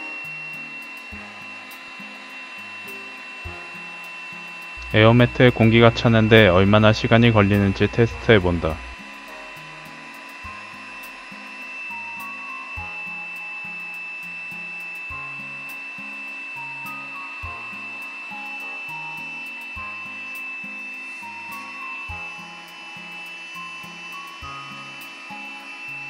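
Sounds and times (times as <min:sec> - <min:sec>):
air pump whining: 0:00.0 - 0:26.0
background music: 0:00.0 - 0:26.0.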